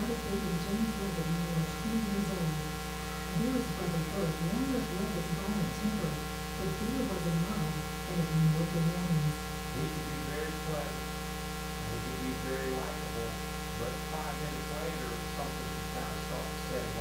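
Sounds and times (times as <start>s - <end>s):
faint muffled voice: 0.0s - 11.0s, 11.8s - 17.0s
electrical mains hum: 0.0s - 17.0s.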